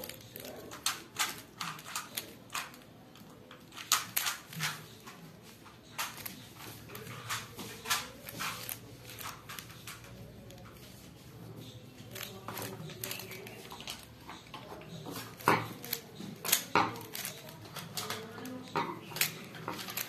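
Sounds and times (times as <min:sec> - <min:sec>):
plastic puzzle cube clicking: 0:00.0 - 0:11.0, 0:11.6 - 0:20.0.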